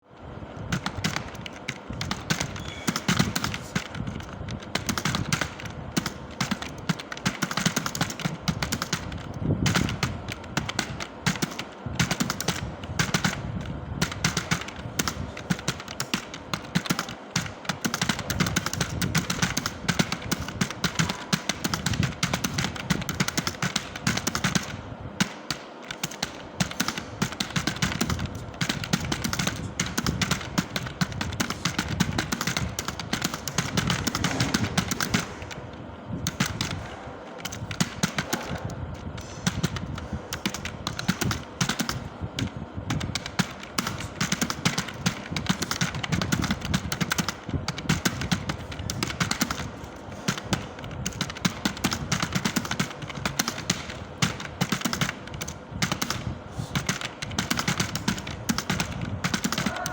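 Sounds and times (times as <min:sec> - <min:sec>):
fast keyboard typing: 0:00.5 - 0:59.9.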